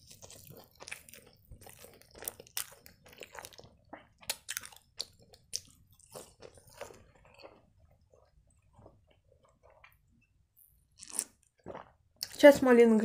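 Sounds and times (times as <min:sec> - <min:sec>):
person chewing crunchy food: 0:00.0 - 0:12.4.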